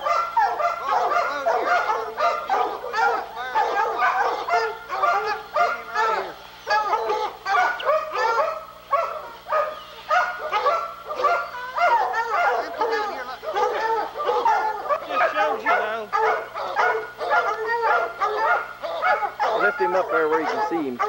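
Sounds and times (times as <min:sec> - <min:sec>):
dogs baying and barking: 0:00.0 - 0:21.0.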